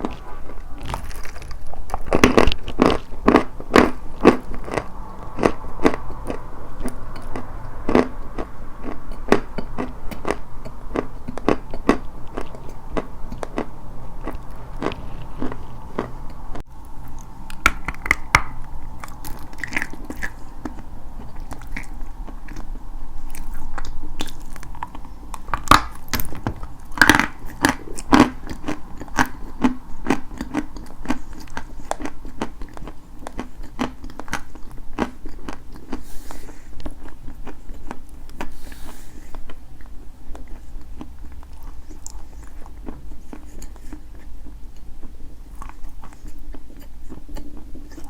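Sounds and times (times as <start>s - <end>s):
chalk being chewed: 0.0s - 48.0s.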